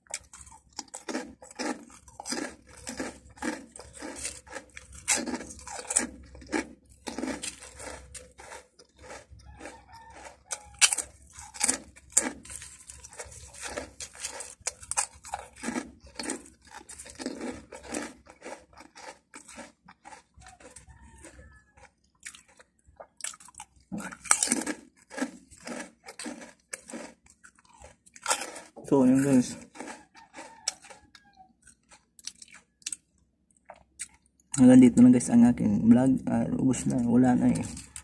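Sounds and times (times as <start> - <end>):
person crunching potato chips: 0.0 - 34.7, 36.7 - 38.0.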